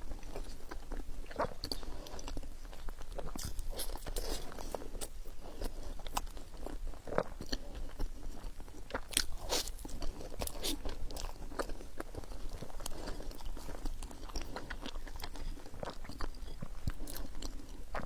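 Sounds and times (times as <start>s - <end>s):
person chewing bread: 0.0s - 18.0s.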